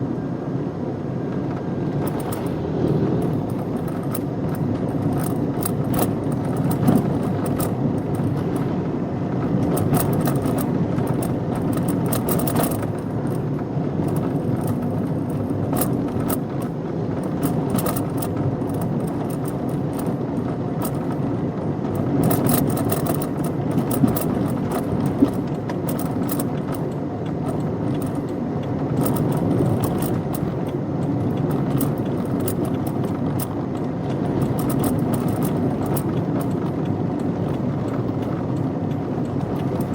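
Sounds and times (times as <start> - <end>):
car engine and road noise: 0.0 - 39.9
light rattles and clicks: 1.3 - 39.9.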